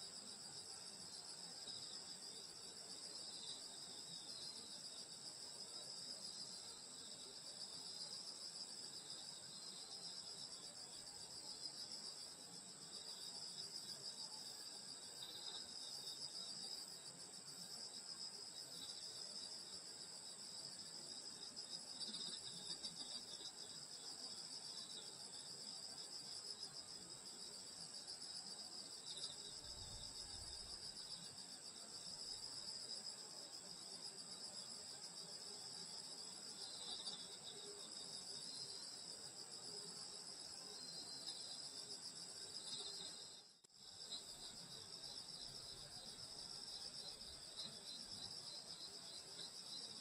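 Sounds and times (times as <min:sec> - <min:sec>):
faint insect chirps: 0:00.0 - 0:50.0.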